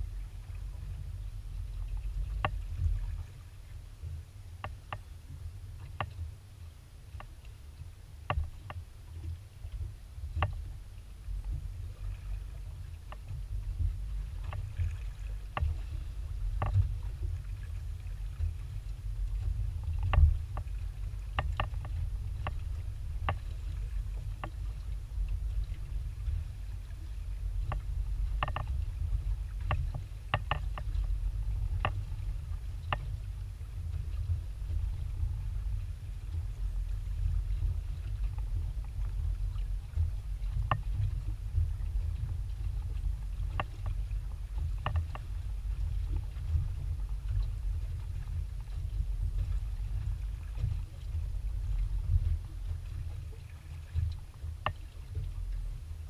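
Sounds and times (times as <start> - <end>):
low rumble: 0.0 - 56.0
waves slapping against hull: 0.0 - 56.0.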